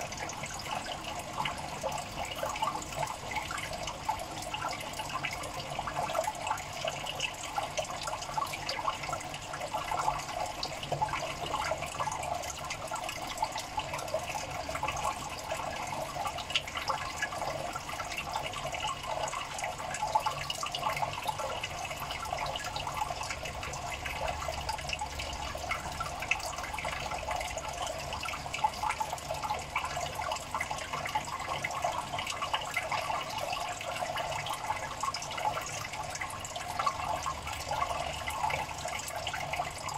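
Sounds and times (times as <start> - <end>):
water trickling and bubbling: 0.0 - 39.9.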